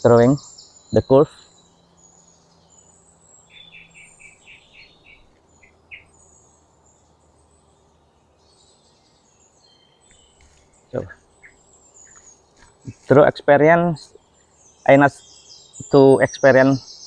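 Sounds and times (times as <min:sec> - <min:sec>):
faint bird chirps: 0:00.0 - 0:17.0
thin high bird calls: 0:00.0 - 0:17.0.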